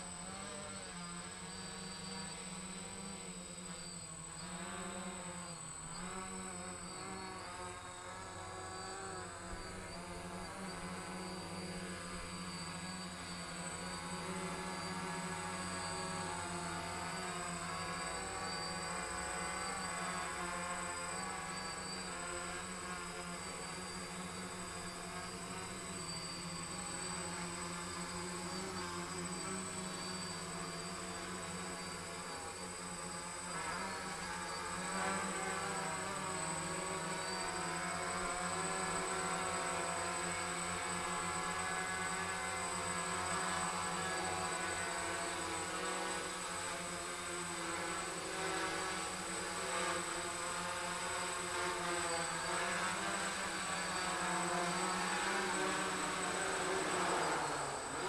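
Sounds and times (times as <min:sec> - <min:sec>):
drone motors buzzing: 0:00.0 - 0:58.0.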